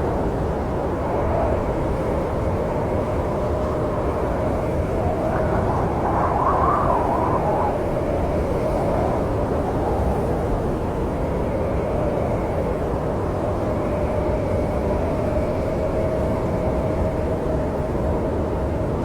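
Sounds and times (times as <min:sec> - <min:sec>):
snowstorm wind rushing: 0:00.0 - 0:17.7.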